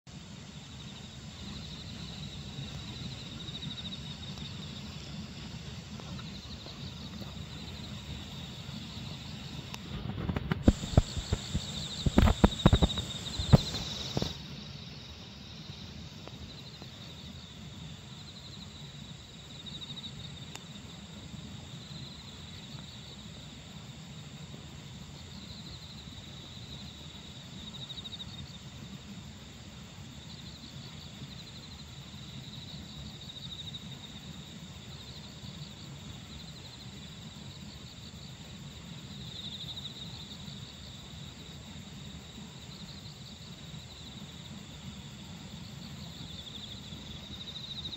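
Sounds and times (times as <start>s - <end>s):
crickets chirping: 0.1s - 47.9s.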